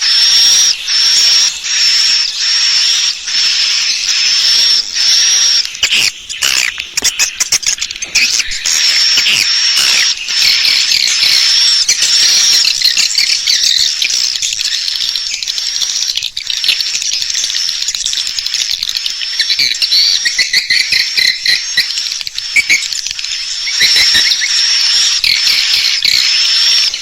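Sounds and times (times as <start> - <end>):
swiftlets twittering: 0.0 - 27.0.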